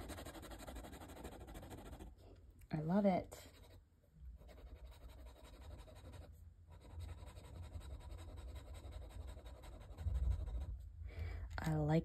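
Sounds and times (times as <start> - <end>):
pen scratching on paper: 0.0 - 2.2, 2.8 - 10.8.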